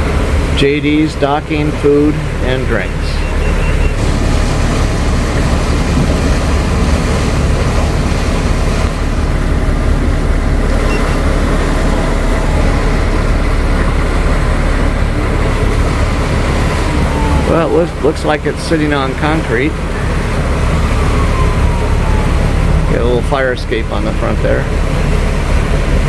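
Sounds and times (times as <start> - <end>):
motorboat engines droning: 0.0 - 26.0
wind and water rushing: 0.0 - 26.0.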